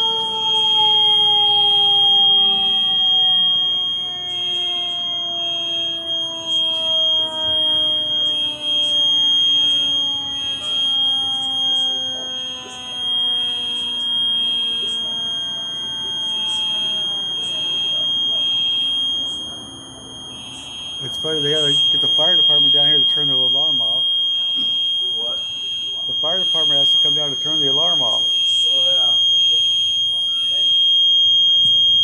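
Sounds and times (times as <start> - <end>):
fire alarm tone with pulsing beep: 0.0 - 32.0
fire engine siren winding down: 0.0 - 32.0.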